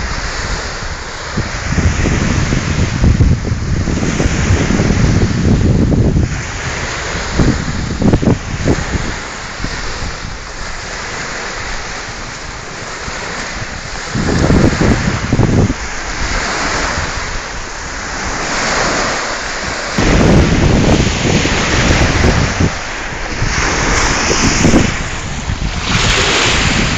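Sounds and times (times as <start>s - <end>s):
waves washing onto shore: 0.0s - 26.9s
wind buffeting microphone: 0.0s - 26.9s.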